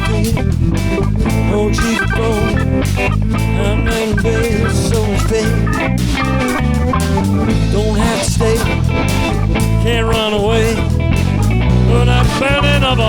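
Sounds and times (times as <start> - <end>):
bass notes: 0.0 - 13.0
drums: 0.0 - 13.0
guitar: 0.0 - 13.0.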